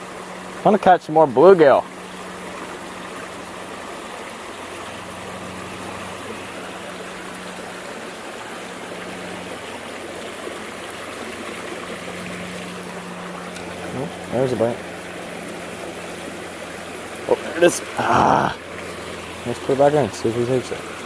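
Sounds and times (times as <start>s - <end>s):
creek water babbling over rocks: 0.0s - 21.0s.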